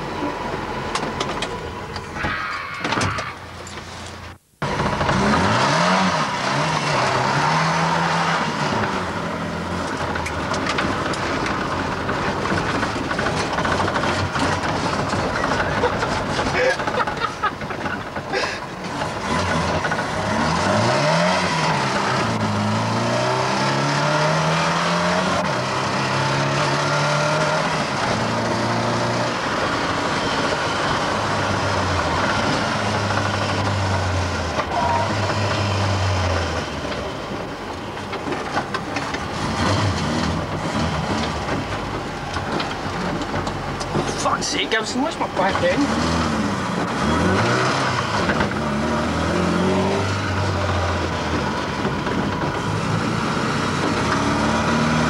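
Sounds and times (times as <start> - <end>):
car engine accelerating through gears: 4.6 - 17.3, 17.9 - 37.6, 38.3 - 55.0.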